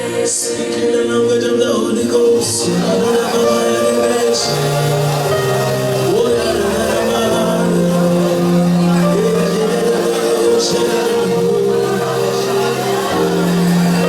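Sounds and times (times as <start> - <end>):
held keyboard chords: 0.0 - 14.0
bass notes: 2.5 - 14.0.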